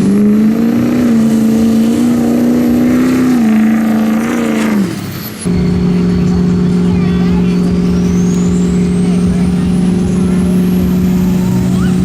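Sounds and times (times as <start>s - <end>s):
diesel truck engine at full throttle: 0.0s - 12.0s.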